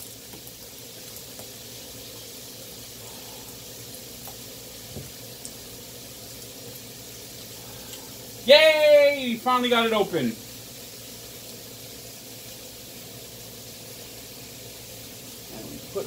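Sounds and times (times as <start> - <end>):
chicken sizzling on a grill: 0.0 - 16.0.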